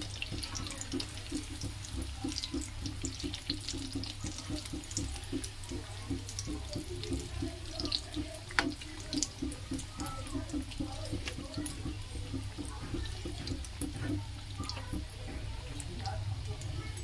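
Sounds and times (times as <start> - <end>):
oil bubbling and crackling: 0.0 - 17.0.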